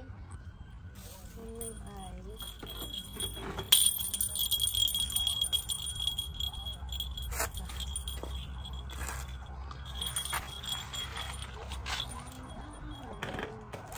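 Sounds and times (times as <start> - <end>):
light jingling: 1.5 - 13.9.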